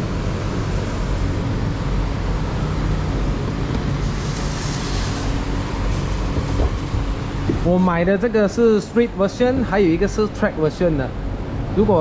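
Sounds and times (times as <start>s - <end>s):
background rumble and hiss: 0.0s - 12.0s.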